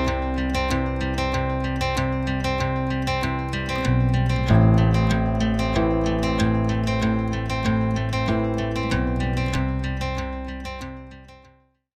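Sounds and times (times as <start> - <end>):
plucked notes over held chord: 0.0 - 11.1.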